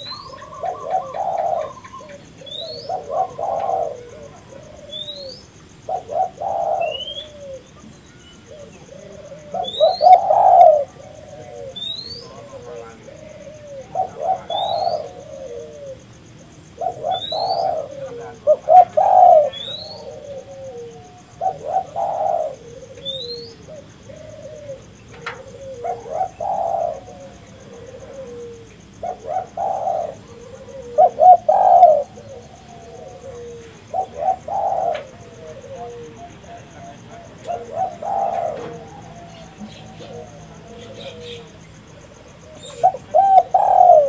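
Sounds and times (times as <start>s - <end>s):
dove cooing: 0.0s - 44.0s.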